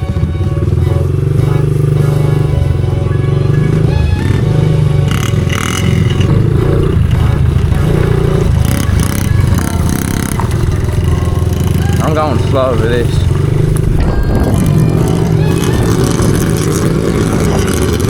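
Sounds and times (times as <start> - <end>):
pit bike engine running: 0.0 - 18.0.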